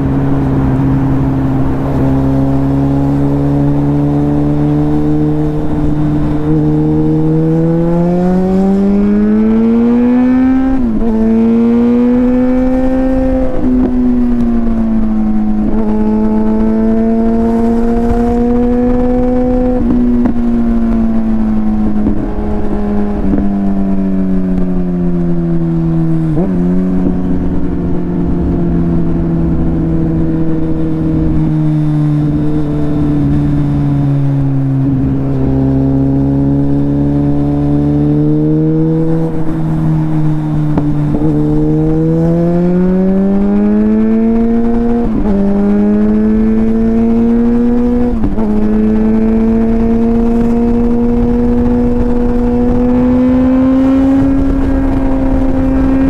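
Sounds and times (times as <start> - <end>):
low wind rumble: 0.0 - 56.0
motorcycle engine revving with gear changes: 0.0 - 56.0.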